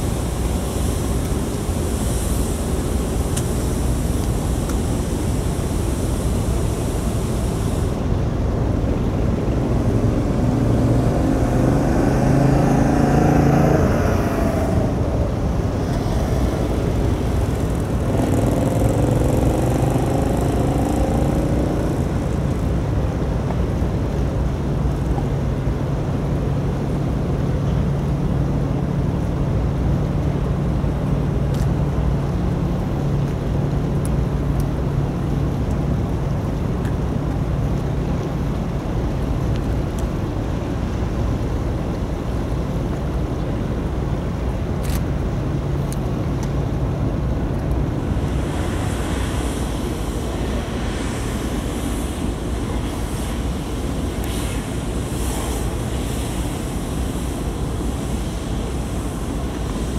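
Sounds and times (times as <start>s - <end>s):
boat engine drone: 0.0s - 59.9s
water washing along hull: 0.0s - 59.9s.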